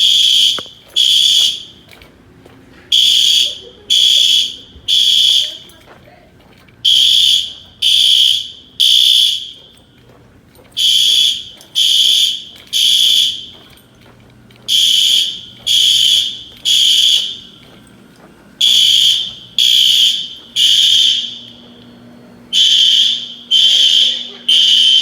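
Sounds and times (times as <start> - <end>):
fire alarm horn beeping: 0.0 - 2.0, 2.9 - 5.9, 6.8 - 10.0, 10.7 - 14.0, 14.6 - 17.9, 18.6 - 25.0.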